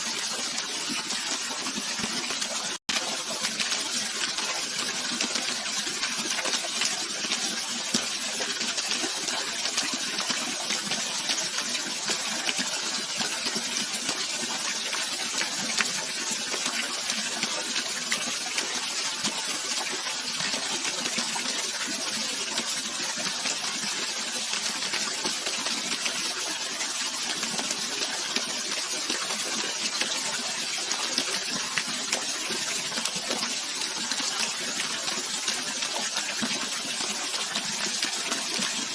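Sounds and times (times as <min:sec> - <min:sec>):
running water splashing: 0:00.0 - 0:38.9.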